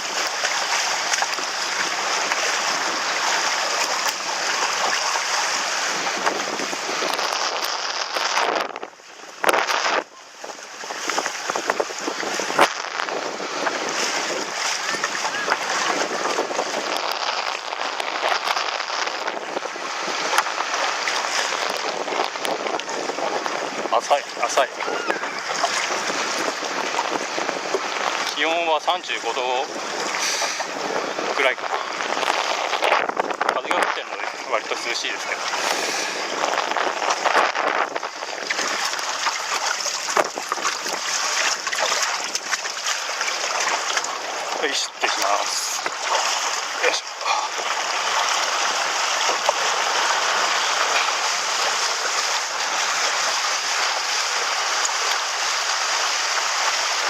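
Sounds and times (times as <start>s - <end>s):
water splashing against a board: 0.0s - 57.0s
wind hissing on microphone: 1.0s - 57.0s.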